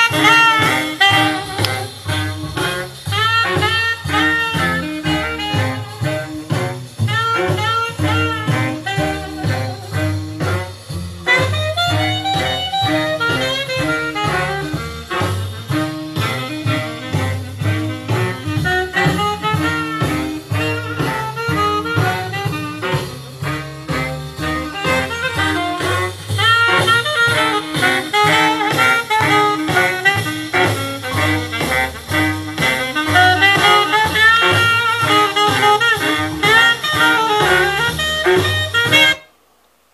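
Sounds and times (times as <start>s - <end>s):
steady bass line: 0.0s - 39.2s
brass: 0.0s - 39.4s
jazz music with horns: 0.0s - 39.5s
saxophone: 0.0s - 39.5s.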